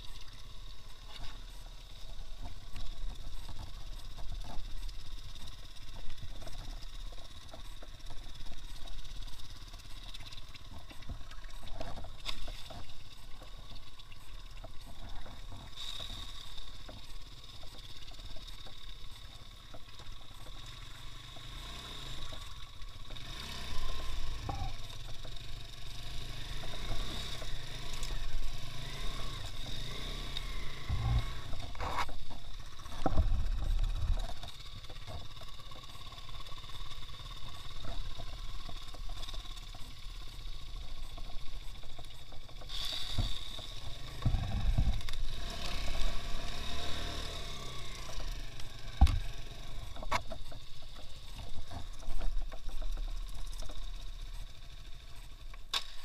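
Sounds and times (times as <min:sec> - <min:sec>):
motorcycle engine rumble: 0:00.0 - 0:56.0.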